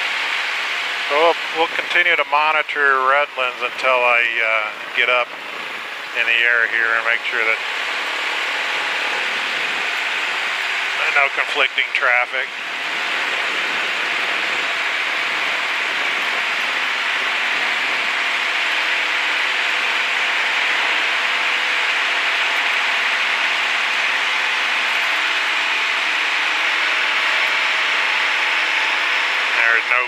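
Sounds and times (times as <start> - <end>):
faint engine hum: 0.0 - 30.0.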